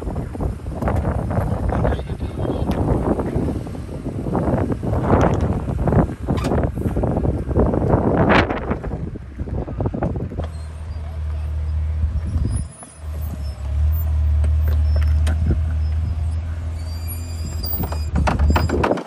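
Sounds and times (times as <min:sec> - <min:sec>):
vehicle rumbling: 0:00.0 - 0:19.0.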